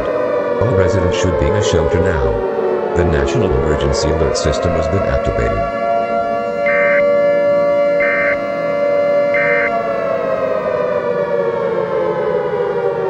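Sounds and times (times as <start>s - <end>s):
siren steady tone: 0.0s - 13.0s.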